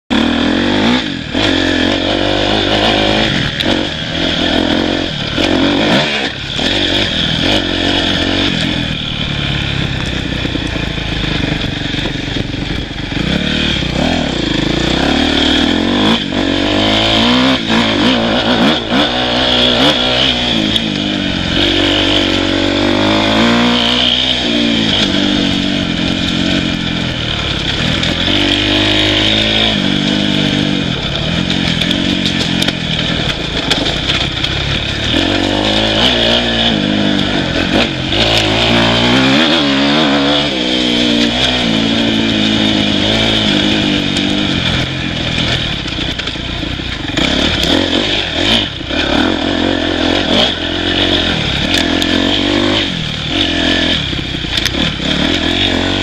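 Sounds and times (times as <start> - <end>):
dirt bike engine revving: 0.1 - 56.0.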